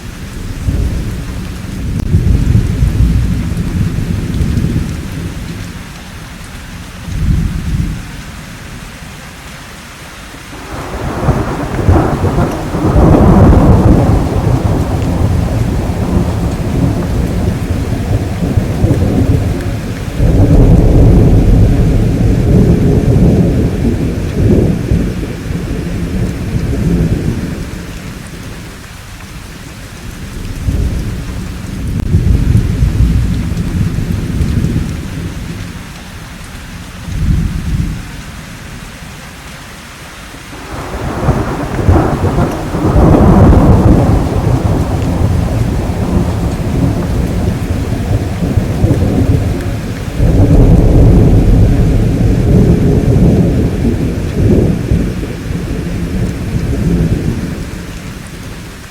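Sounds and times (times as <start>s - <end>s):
rolling thunder: 0.0s - 5.9s, 10.6s - 28.8s, 30.0s - 36.0s, 36.8s - 38.2s, 40.6s - 58.9s
steady rain: 0.0s - 58.9s.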